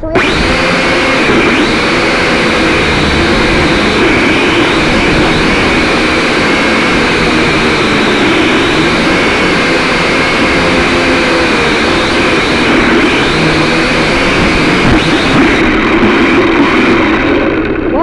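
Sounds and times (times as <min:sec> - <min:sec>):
drone propellers whirring: 0:00.0 - 0:18.0.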